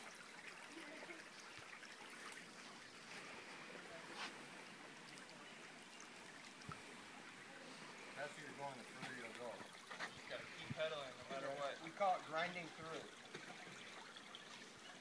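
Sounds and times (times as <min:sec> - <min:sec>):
creek trickling: 0:00.0 - 0:15.0.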